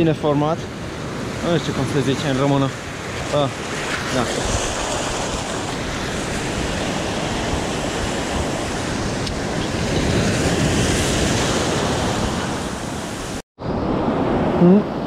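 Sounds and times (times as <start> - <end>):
ocean waves breaking: 0.0 - 15.0
wind on microphone: 0.7 - 15.0.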